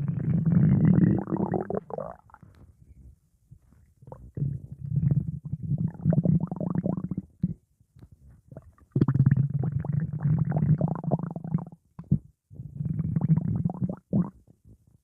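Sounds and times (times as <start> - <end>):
stomach growling: 0.0 - 2.6, 4.0 - 7.6, 8.4 - 14.5.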